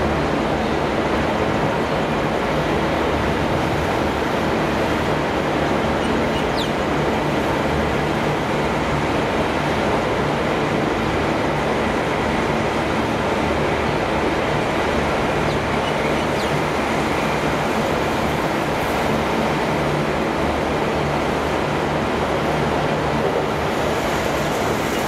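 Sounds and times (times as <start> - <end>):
diesel trains idling hum: 0.0 - 25.0.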